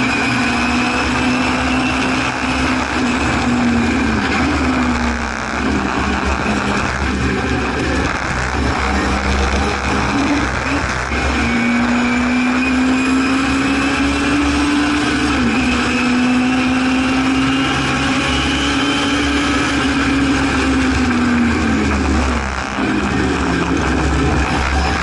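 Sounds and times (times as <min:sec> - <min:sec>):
race car engine accelerating: 0:00.0 - 0:25.0
road and wind noise: 0:00.0 - 0:25.0.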